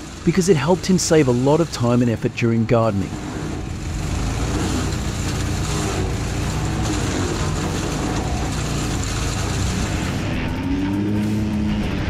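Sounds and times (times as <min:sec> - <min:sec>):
wood chipper shredding branches: 0:00.0 - 0:12.0.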